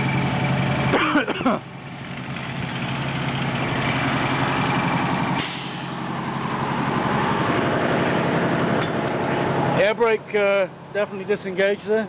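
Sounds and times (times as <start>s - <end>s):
diesel truck engine revving: 0.0s - 11.9s.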